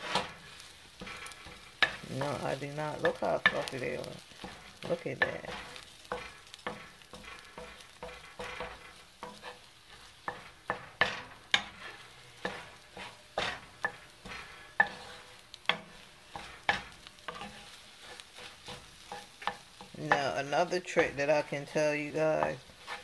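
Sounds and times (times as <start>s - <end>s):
eggs sizzling in oil: 0.0s - 23.0s
wooden spatula scraping a pan: 0.0s - 23.0s.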